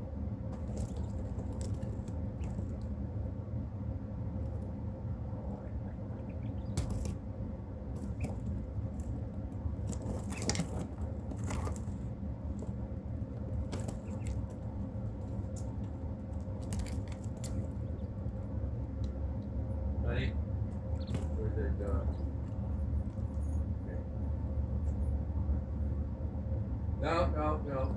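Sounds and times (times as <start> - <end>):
faint hum: 0.0 - 27.9
low rumble: 0.0 - 27.9
quail tapping and rustling: 0.1 - 26.3.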